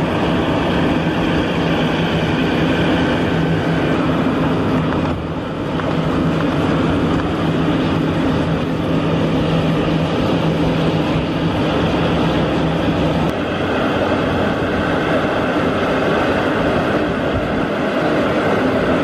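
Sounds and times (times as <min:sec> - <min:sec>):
tow tractor engine drone: 0:00.0 - 0:19.0.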